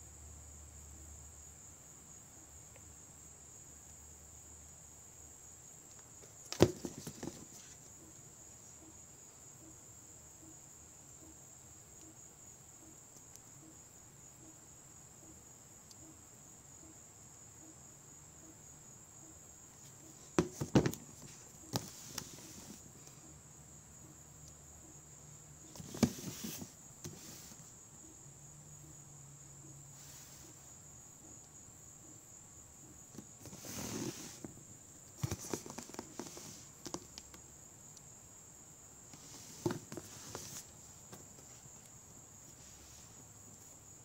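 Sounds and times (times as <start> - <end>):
faint high-pitched whine: 0.0 - 44.0.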